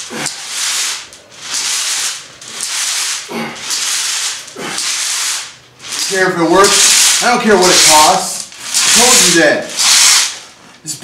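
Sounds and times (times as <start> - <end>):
gravel rattling inside a pipe: 0.0 - 10.4.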